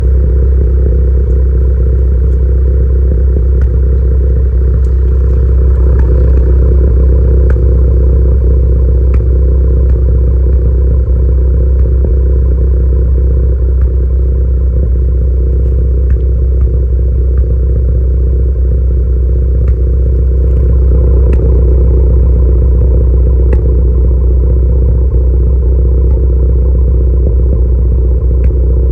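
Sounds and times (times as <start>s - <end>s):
car engine idling with pops: 0.0s - 28.9s.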